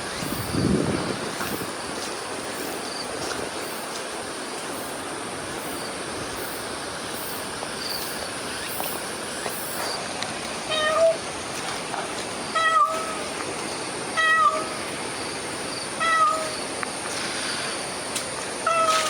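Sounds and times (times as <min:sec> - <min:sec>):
insect chorus pulsing: 0:00.0 - 0:19.0.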